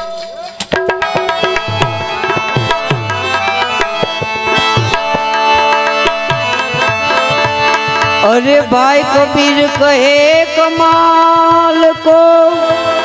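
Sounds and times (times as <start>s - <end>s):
hand drums playing: 0.0s - 13.0s
harmonium chords: 0.2s - 13.0s.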